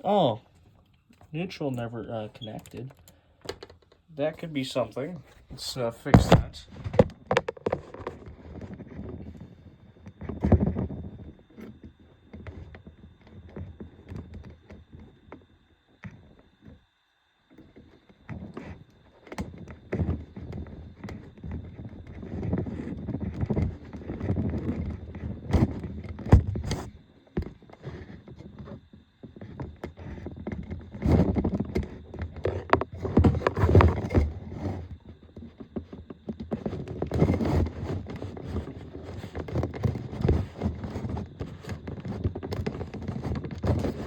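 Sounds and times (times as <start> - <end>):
hands rustling and scraping wiring: 0.0 - 16.9, 17.5 - 44.0.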